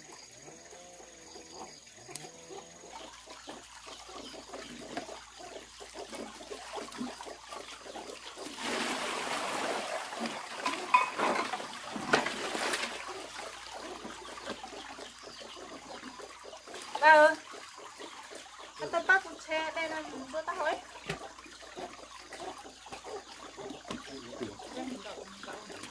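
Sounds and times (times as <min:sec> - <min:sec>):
water trickling over: 0:00.0 - 0:25.9
water running from hose: 0:02.1 - 0:25.9.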